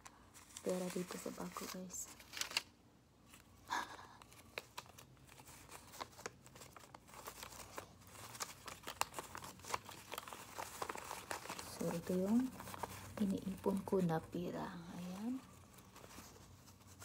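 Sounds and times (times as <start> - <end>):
paper bills rustling and crinkling: 0.1 - 2.7, 3.3 - 17.0.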